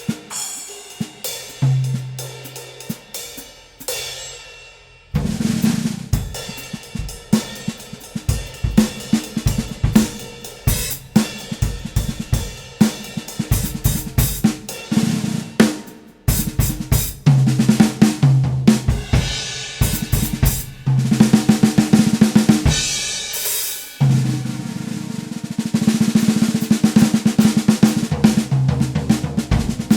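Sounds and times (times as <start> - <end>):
drum kit playing: 0.0 - 29.9.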